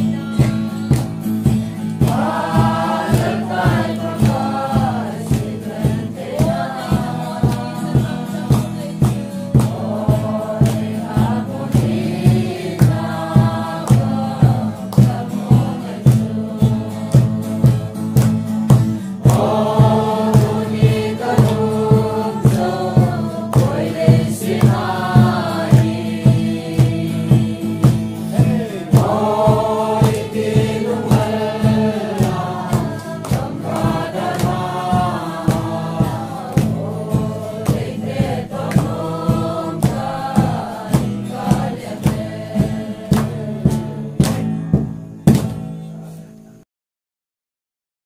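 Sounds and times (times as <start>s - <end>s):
group singing a hymn: 0.0s - 45.6s
hand drum beat: 0.0s - 45.8s.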